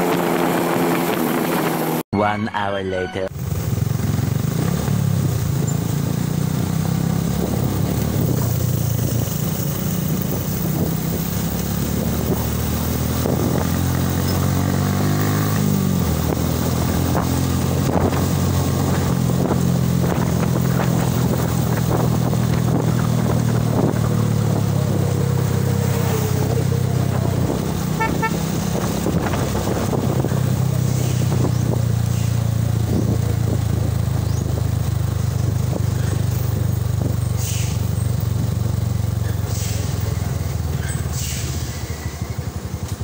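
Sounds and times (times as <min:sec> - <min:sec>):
motorcycle engine running: 0:00.0 - 0:02.0, 0:03.3 - 0:43.0
road noise: 0:00.0 - 0:43.0.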